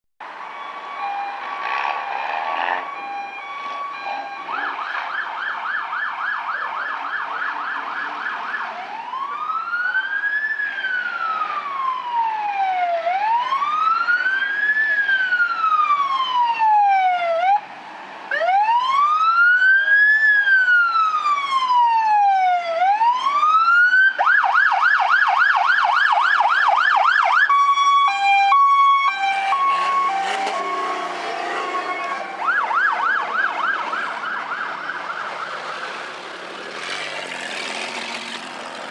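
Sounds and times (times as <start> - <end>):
emergency vehicle siren: 0.2 - 38.9.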